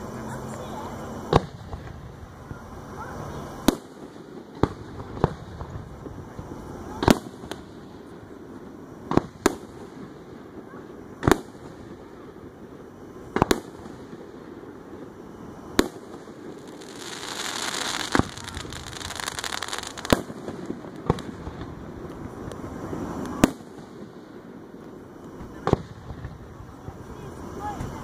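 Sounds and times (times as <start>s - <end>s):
firework crackling hiss: 0.0s - 28.0s
firework shells booming: 1.3s - 2.3s, 3.6s - 26.7s.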